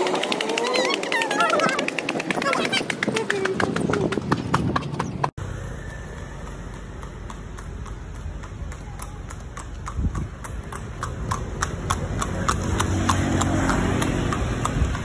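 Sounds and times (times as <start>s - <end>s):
horse hooves on asphalt: 0.1s - 15.0s.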